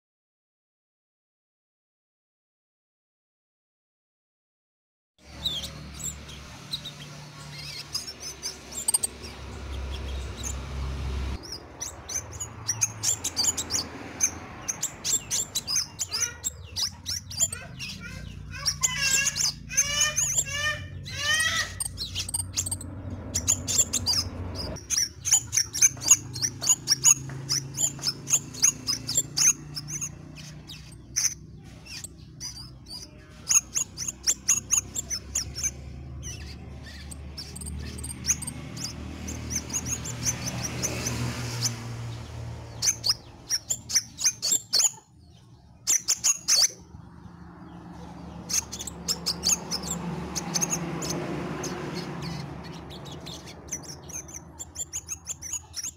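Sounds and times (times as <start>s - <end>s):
bird singing high chirps: 5.2s - 55.9s.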